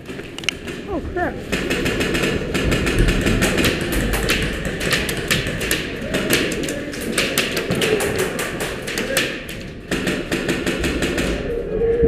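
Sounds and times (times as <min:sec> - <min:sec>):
airsoft guns firing: 0:00.0 - 0:11.5.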